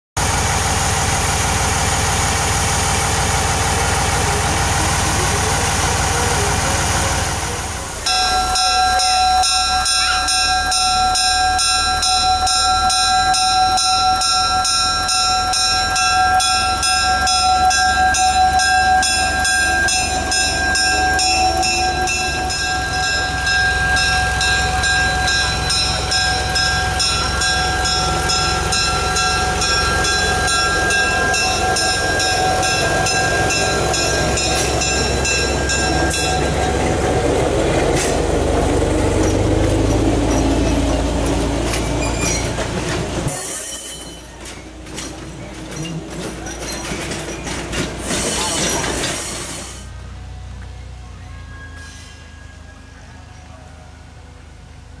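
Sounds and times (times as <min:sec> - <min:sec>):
diesel locomotive idling: 0:00.2 - 0:55.0
locomotive bell ringing: 0:03.3 - 0:49.3, 0:50.4 - 0:54.6.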